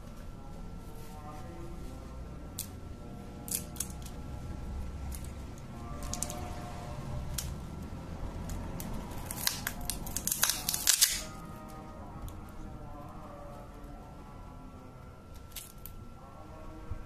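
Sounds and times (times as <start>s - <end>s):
faint background music: 0.0s - 17.0s.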